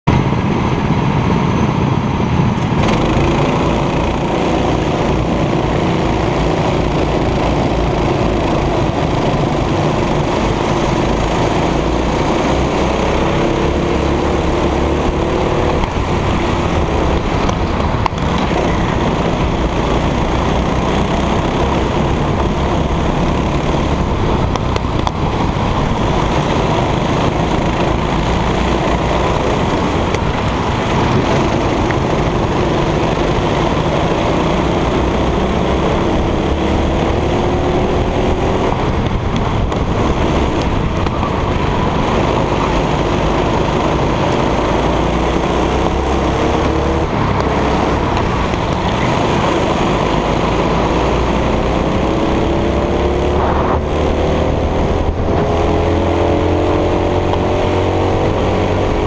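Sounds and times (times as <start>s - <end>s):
go-kart engine racing: 0.0s - 59.0s
other kart engines: 0.0s - 59.0s
wind buffeting on microphone: 0.1s - 59.0s.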